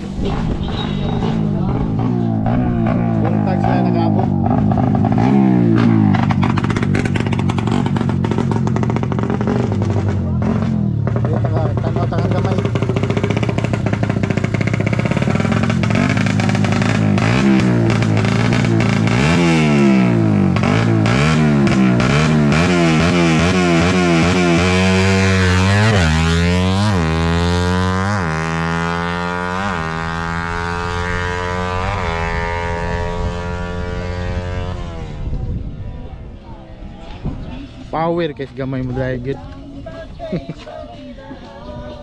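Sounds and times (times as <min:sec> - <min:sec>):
motorcycle engine revving: 0:00.0 - 0:40.8.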